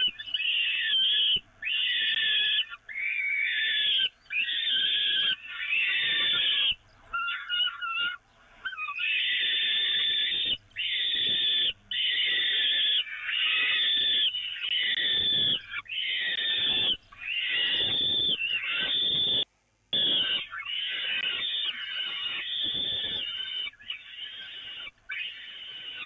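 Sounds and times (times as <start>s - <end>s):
falcon chicks screaming: 0.0s - 26.0s.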